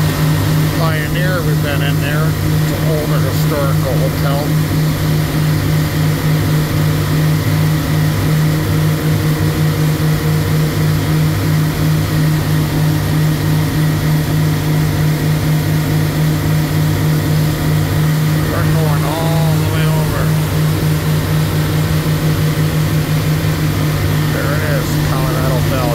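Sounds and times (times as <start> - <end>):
boat engine droning: 0.0 - 25.9.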